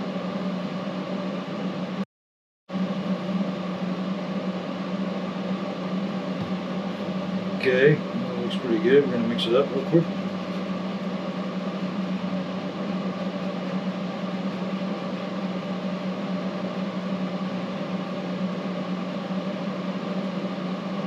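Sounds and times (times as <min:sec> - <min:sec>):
steady motor hum with hiss: 0:00.0 - 0:02.0, 0:02.7 - 0:21.0.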